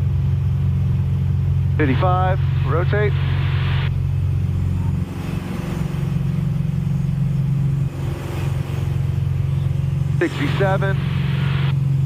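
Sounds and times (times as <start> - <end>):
airplane engine at full power: 0.0 - 12.0.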